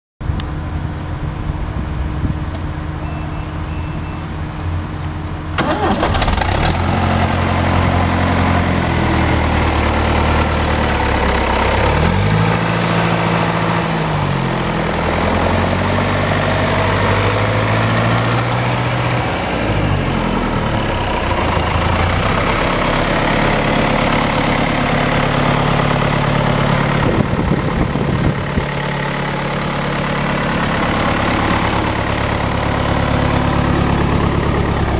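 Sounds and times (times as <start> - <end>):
tractor diesel engine revving: 1.5 - 34.9.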